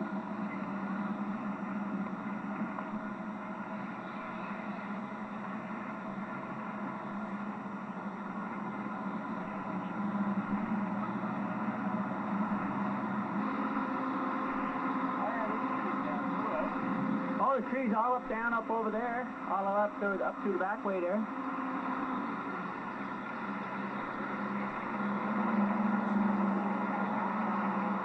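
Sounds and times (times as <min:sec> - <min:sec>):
car engine and road drone: 0:00.0 - 0:28.0.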